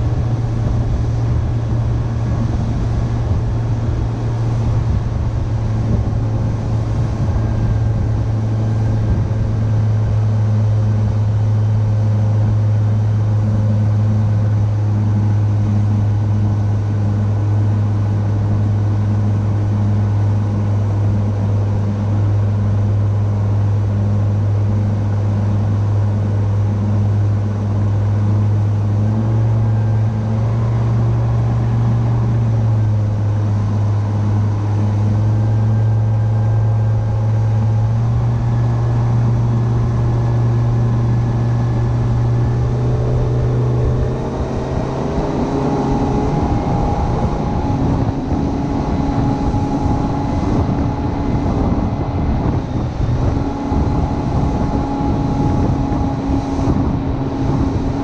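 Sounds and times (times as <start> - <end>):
outboard engine droning: 0.0 - 58.0.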